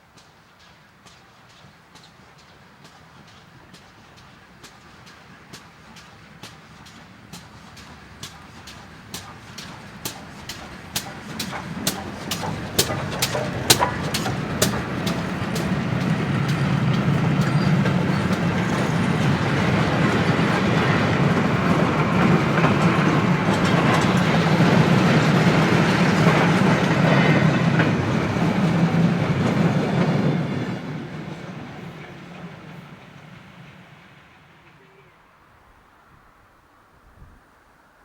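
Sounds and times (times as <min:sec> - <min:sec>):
train wheels clicking on rail joints: 0:00.0 - 0:35.0
train wheels rumbling: 0:00.0 - 0:35.4.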